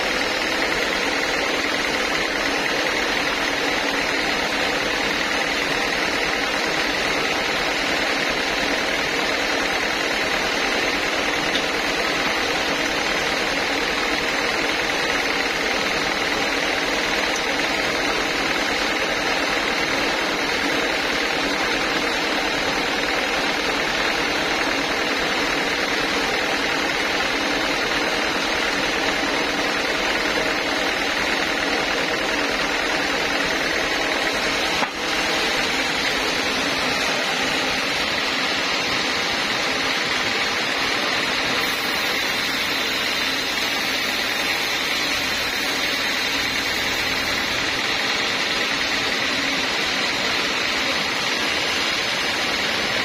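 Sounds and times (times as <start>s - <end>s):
band sawmill sawing a log: 0.0s - 53.0s.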